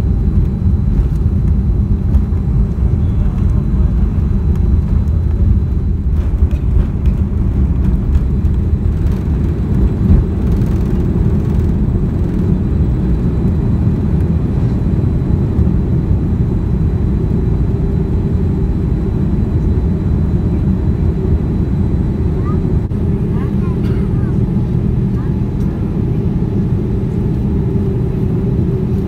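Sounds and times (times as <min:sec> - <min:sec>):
jet engines low rumble: 0:00.0 - 0:29.0.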